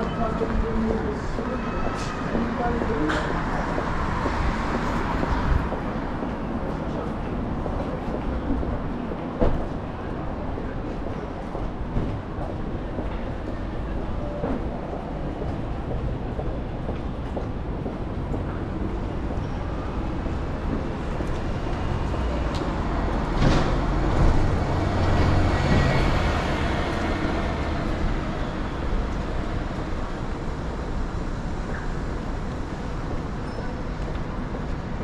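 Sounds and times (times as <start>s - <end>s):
low rumble of traffic: 0.0s - 35.0s.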